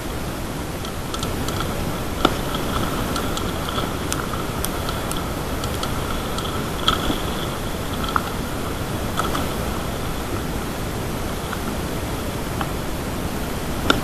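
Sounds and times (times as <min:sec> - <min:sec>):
wind and tyres rushing: 0:00.0 - 0:14.0
bike rattling clicks: 0:00.7 - 0:12.9.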